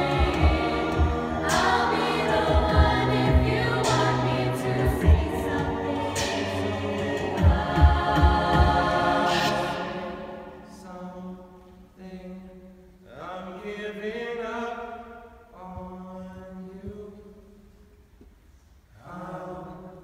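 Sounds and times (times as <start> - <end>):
vocal group singing chords: 0.0 - 17.5, 19.0 - 20.0.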